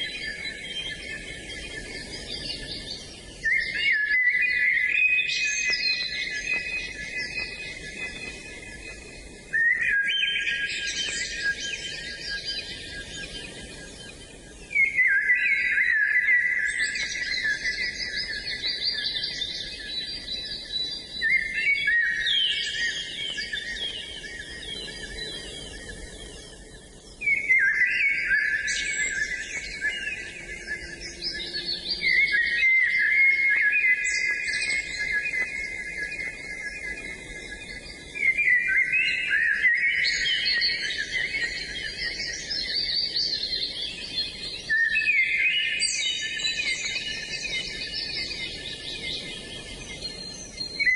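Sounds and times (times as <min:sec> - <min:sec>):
birds chirping and singing: 0:00.0 - 0:50.9.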